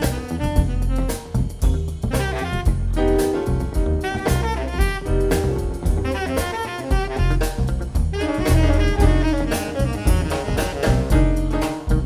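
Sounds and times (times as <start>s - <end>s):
bass: 0.0s - 12.0s
drum kit with cymbal strokes: 0.0s - 12.0s
tenor saxophone jazz line: 0.0s - 12.0s.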